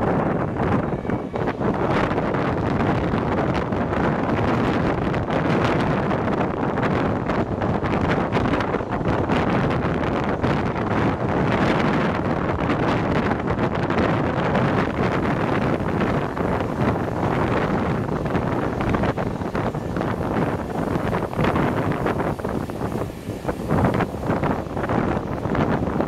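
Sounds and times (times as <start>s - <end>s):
steady rumble: 0.0s - 26.0s
wind buffeting microphone: 0.0s - 26.0s.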